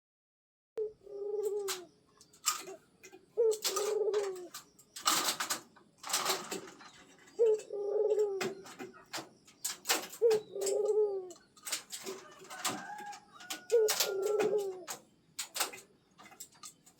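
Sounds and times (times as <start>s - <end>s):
dove cooing: 0.8s - 16.8s.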